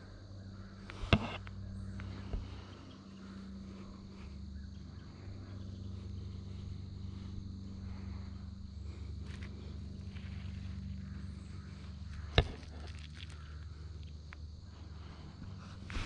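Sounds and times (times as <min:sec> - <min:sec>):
faint insect chirring: 0:00.0 - 0:16.0
steady low hum: 0:00.0 - 0:16.0.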